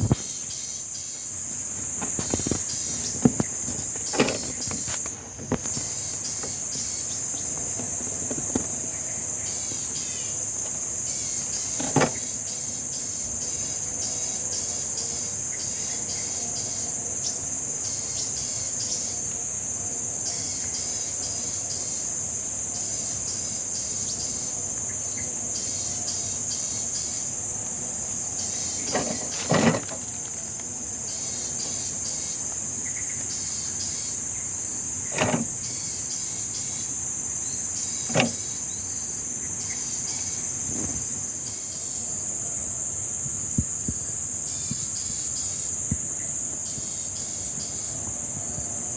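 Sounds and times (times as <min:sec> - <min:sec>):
chirping insect trills: 0:00.0 - 0:48.9
insect chorus drone: 0:00.0 - 0:48.9.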